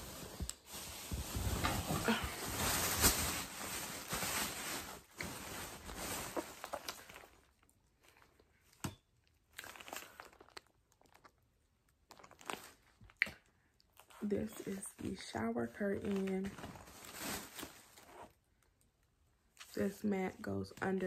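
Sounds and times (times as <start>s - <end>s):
plastic packaging crinkling: 0.0s - 8.8s, 9.5s - 18.4s.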